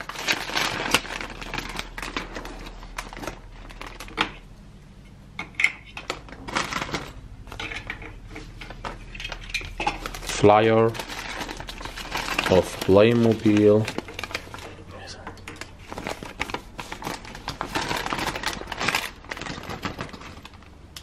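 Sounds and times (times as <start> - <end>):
paper rustling: 0.0 - 4.4, 6.1 - 14.9, 15.6 - 20.7.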